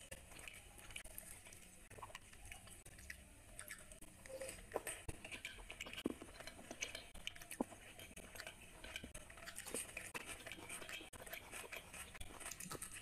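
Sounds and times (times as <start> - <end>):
person chewing with mouth clicks: 0.0 - 13.0.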